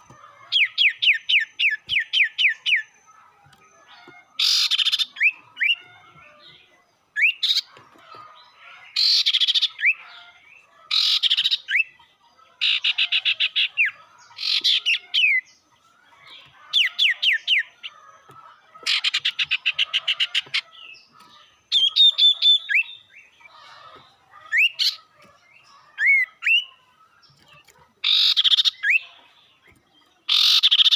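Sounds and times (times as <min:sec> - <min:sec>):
songbird chattering trills: 0:00.0 - 0:30.9.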